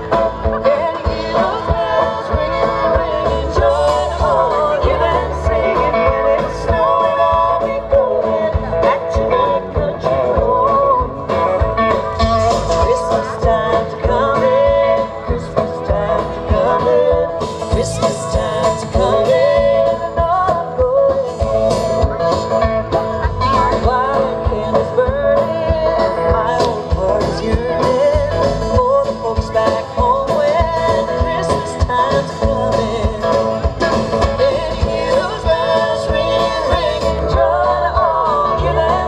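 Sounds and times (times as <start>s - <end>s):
guitars: 0.0s - 39.0s
live country-rock band: 0.0s - 39.0s.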